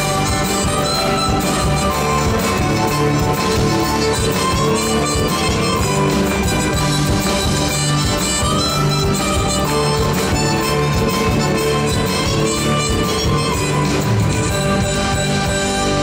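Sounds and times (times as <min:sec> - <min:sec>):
backing music: 0:00.0 - 0:16.0
harmonica melody: 0:00.0 - 0:16.0.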